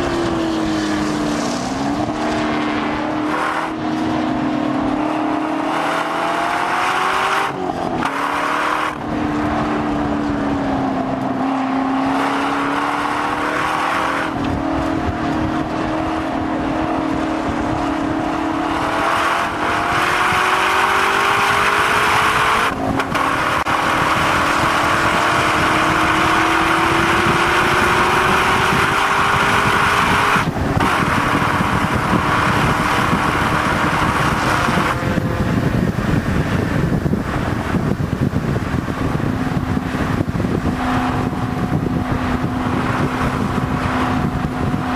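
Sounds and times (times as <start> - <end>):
sports car engine accelerating: 0.0 - 44.9
wind noise: 0.0 - 44.9.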